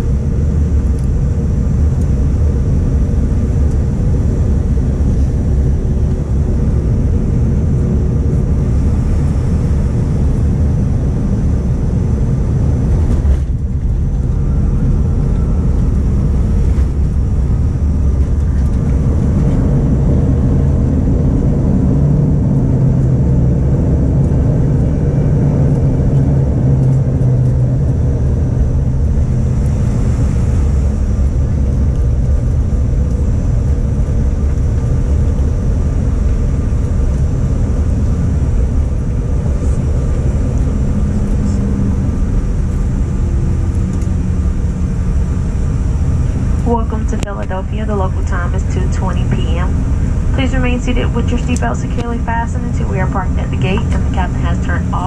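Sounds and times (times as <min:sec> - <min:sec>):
jet engines and rolling wheels: 0:00.0 - 0:55.0
low hum: 0:00.0 - 0:55.0.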